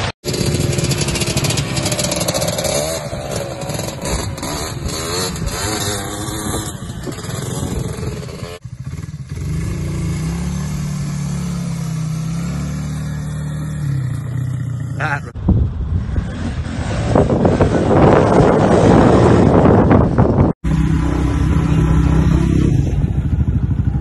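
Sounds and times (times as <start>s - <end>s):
quad engine revving: 0.2s - 24.0s
atv engine steady note: 0.3s - 16.5s, 20.0s - 24.0s.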